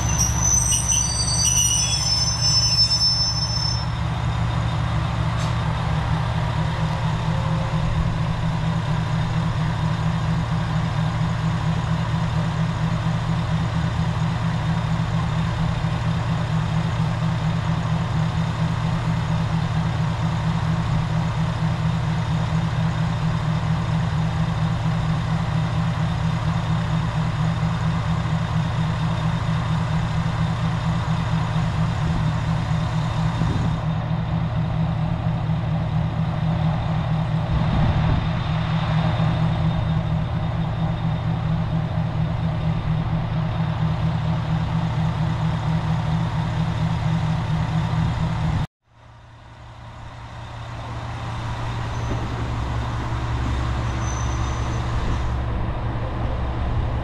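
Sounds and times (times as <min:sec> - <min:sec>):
diesel engine idling: 0:03.0 - 0:57.0.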